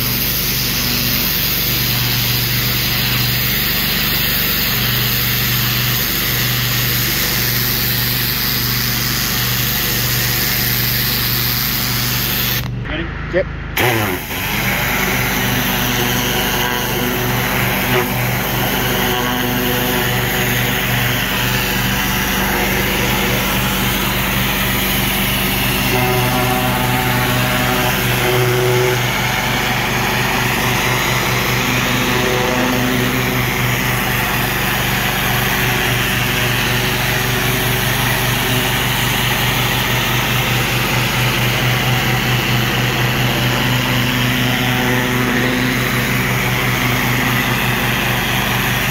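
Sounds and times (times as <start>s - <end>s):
water jet spraying on brick: 0.0s - 12.7s, 13.8s - 48.9s
pressure washer engine running: 0.0s - 48.9s.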